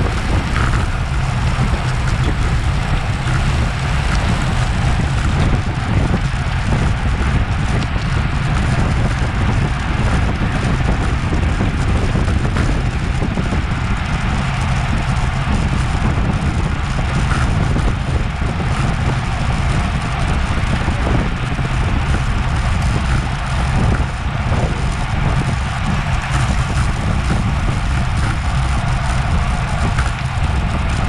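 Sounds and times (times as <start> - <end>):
wind buffeting a microphone: 0.0 - 31.0.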